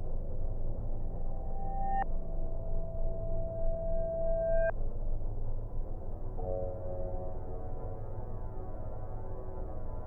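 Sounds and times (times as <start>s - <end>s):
dark ambient music: 0.0s - 10.0s.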